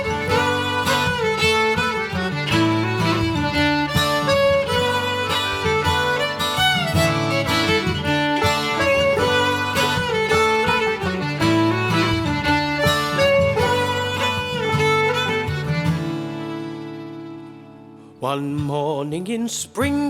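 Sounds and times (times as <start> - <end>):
fiddle melody: 0.0 - 18.4
plucked guitar: 0.0 - 18.8.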